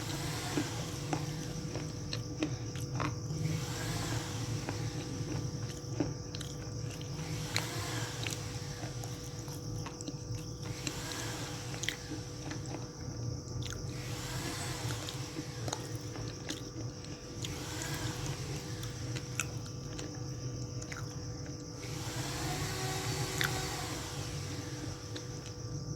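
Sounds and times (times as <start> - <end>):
person chewing crunchy clay: 0.0 - 22.1, 24.8 - 25.9
steady low hum: 0.0 - 25.9.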